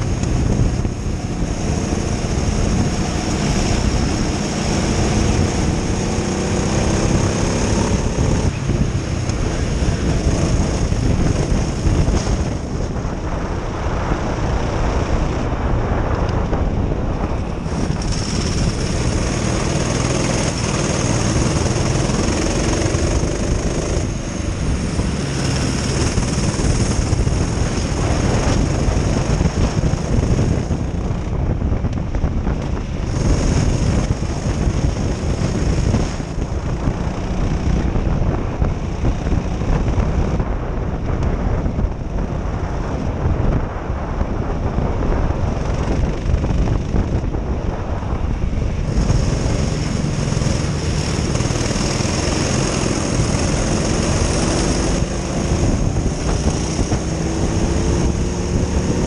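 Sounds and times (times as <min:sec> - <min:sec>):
kart engine accelerating: 0:00.0 - 0:43.2, 0:45.3 - 0:59.0
wind noise on microphone: 0:00.0 - 0:59.0.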